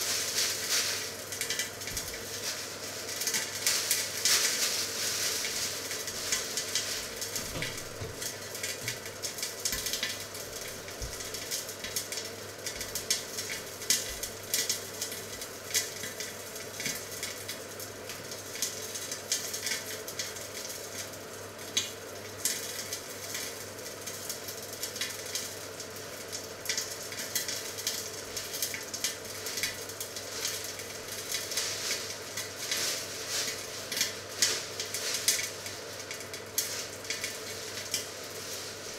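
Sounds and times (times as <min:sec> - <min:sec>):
chicken sizzling in grill pan: 0:00.0 - 0:38.9
small crackles of frying: 0:00.0 - 0:38.9.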